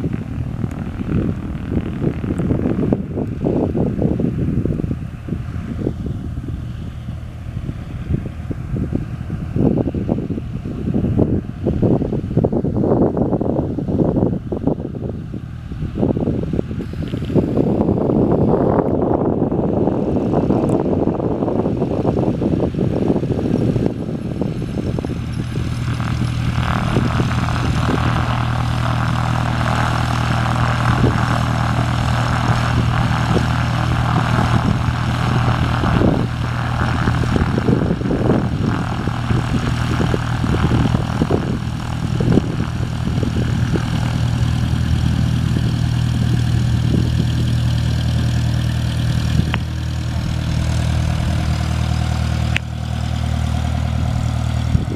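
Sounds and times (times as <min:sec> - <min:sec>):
propeller plane engine idling: 0:00.0 - 0:54.9.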